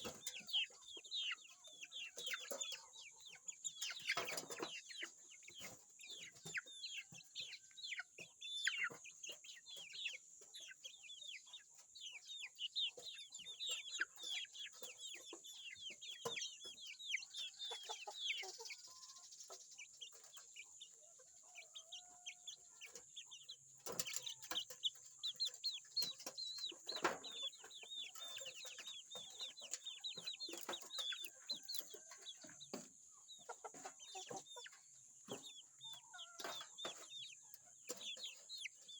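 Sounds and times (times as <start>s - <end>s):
chickens clucking and peeping: 0.0s - 38.9s.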